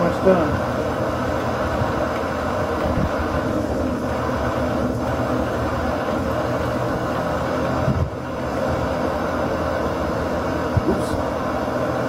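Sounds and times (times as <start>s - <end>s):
camping stove burner roaring: 0.0s - 12.0s.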